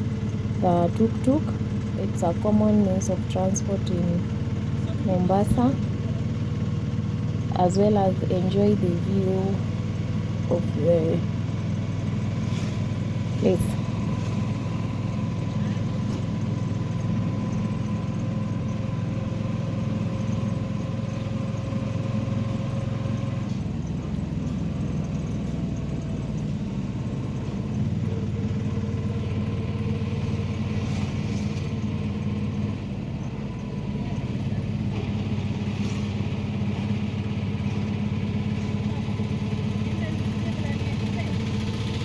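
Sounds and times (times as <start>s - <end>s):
auto-rickshaw engine running: 0.0s - 42.0s.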